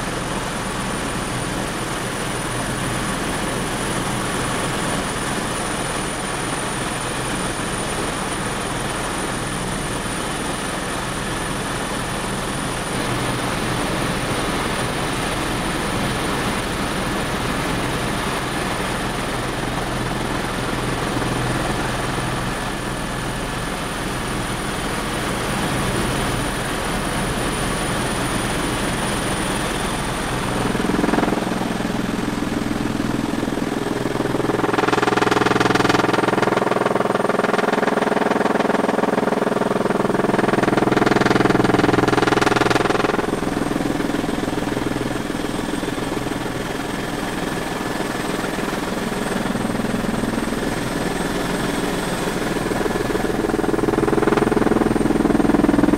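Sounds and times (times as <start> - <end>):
helicopter engine and rotor: 0.0 - 55.9.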